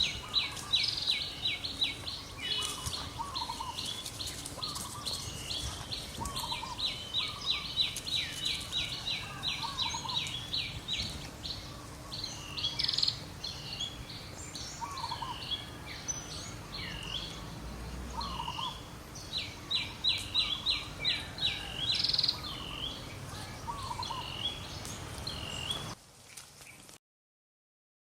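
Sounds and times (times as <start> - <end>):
birds chirping: 0.0 - 26.0
background hum: 0.0 - 27.0.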